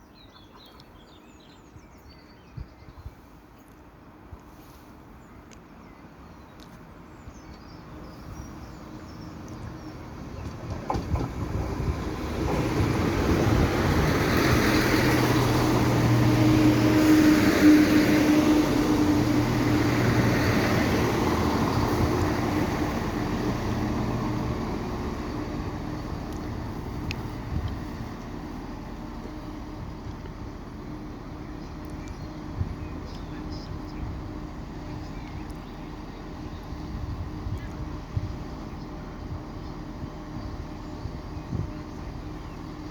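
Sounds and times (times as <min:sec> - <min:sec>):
train passing with rail noise: 0:00.0 - 0:42.9.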